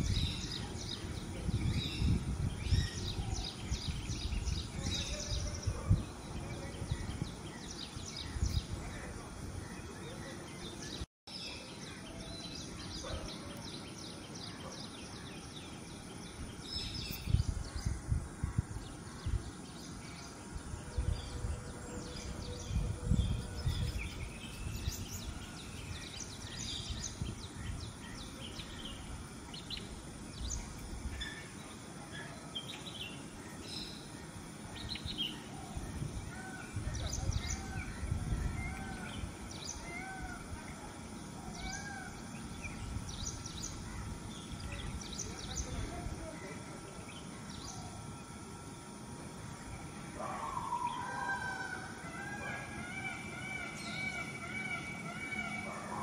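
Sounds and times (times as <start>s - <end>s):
small birds chirping: 0.0s - 51.1s.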